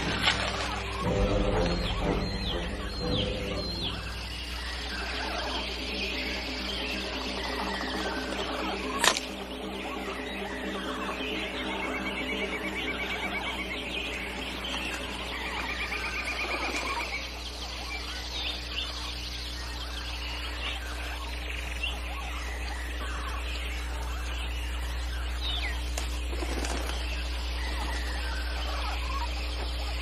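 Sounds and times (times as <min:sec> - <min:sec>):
bird chirps and calls: 0:00.0 - 0:30.0
steady low hum: 0:00.0 - 0:30.0.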